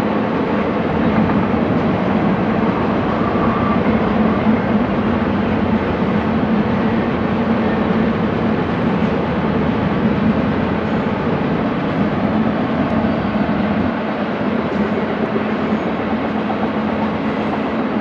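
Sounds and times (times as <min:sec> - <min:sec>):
train cars rumbling on rails: 0:00.0 - 0:18.0.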